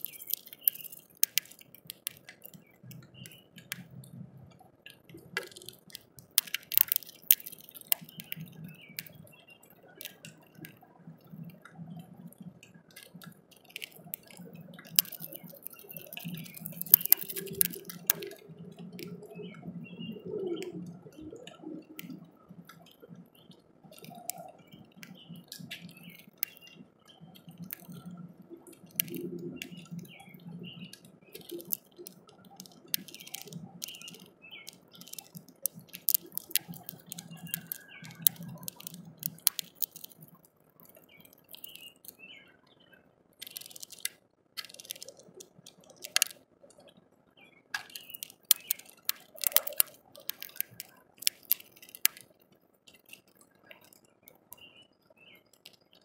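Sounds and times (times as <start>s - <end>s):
bird beak cracking seeds: 0.0s - 4.0s, 4.9s - 11.6s, 12.6s - 19.3s, 20.2s - 42.2s, 43.4s - 46.4s, 47.7s - 54.6s, 55.5s - 56.0s
rain dripping on feeder: 0.0s - 42.4s, 43.4s - 46.9s, 47.7s - 56.0s.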